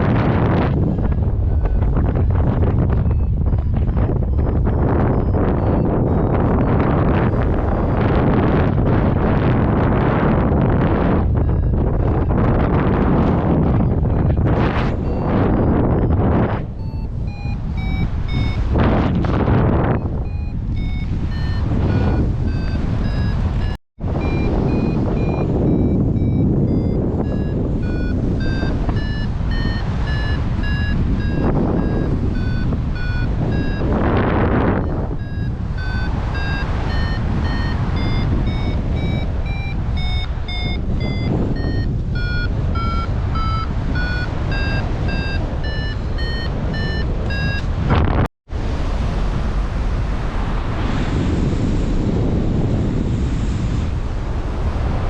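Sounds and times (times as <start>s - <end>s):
variometer beeping: 0.0s - 48.3s
wind noise on microphone: 0.0s - 55.0s.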